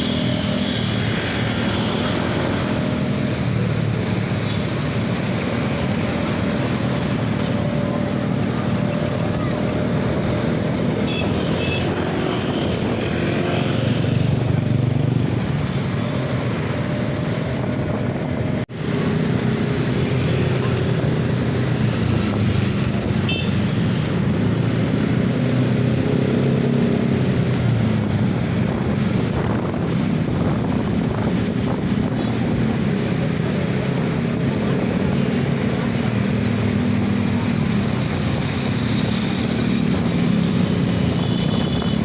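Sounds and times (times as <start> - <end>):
vehicle engines running: 0.0 - 42.0.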